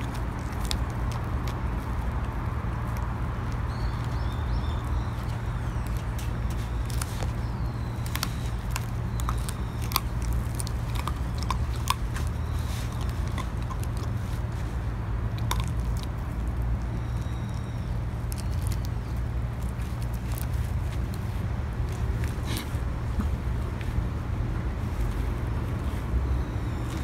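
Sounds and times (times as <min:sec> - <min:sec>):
dogs' teeth crunching bone: 0:00.0 - 0:23.5
low steady rumble: 0:00.0 - 0:27.0.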